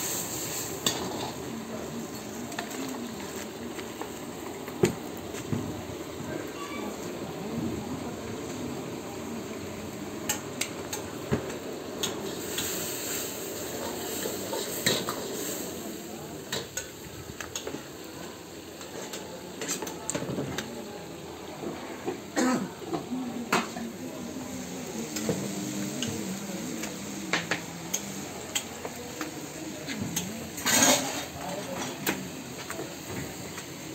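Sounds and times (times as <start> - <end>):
steady hiss: 0.0 - 33.9.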